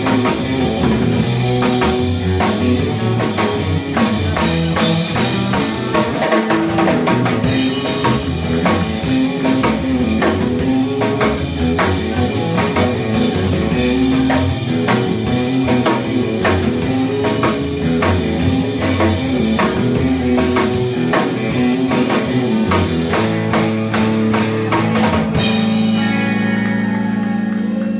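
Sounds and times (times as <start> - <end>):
drum kit: 0.0 - 27.9
electric guitars playing: 0.0 - 27.9.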